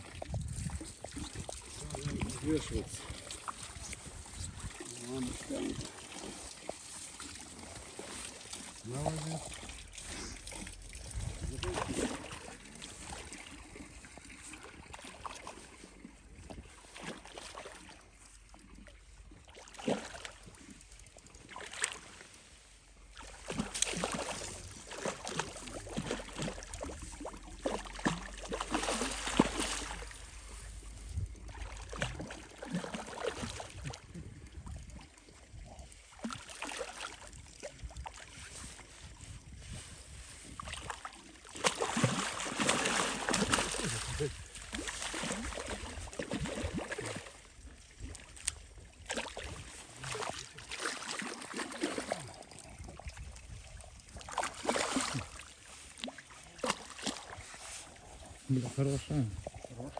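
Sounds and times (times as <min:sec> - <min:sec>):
water lapping and splashing: 0:00.0 - 0:59.9.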